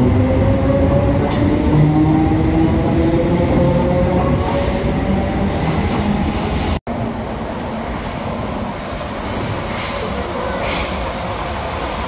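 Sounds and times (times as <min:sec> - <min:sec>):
train approaching through tunnel: 0:00.0 - 0:12.0.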